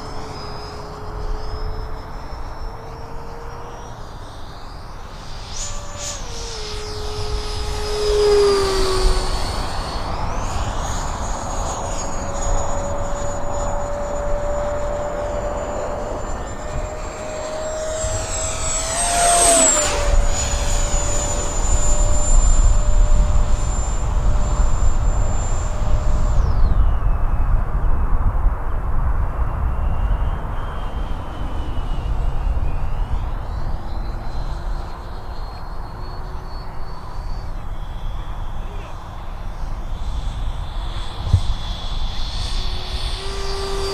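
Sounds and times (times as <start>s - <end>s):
model jet fan whining: 0.0s - 43.9s.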